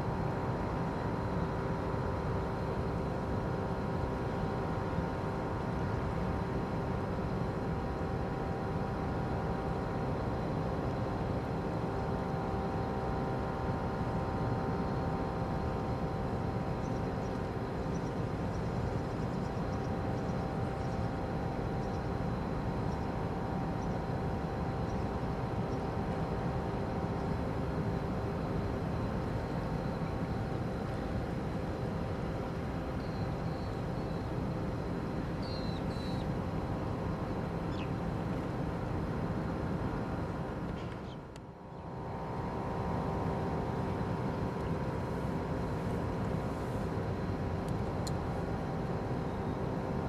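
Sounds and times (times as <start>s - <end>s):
ship machinery drone: 0.0s - 50.0s.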